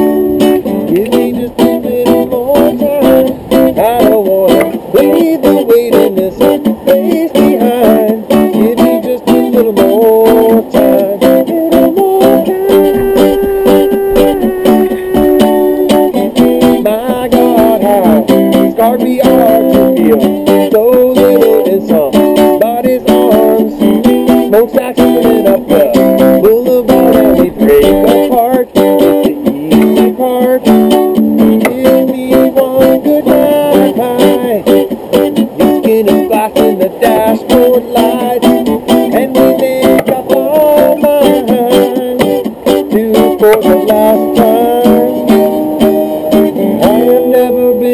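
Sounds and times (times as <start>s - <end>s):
instrumental guitar music: 0.0s - 47.9s.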